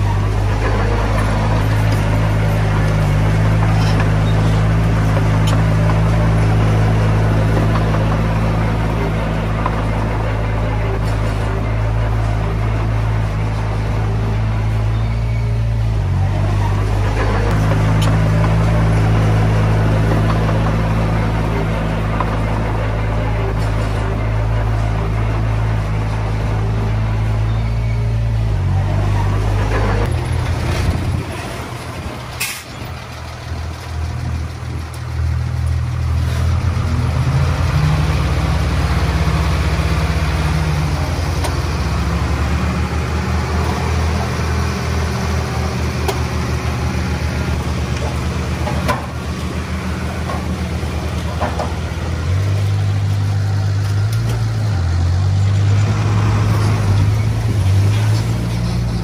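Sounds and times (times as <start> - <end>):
diesel machine engine running: 0.0 - 59.0.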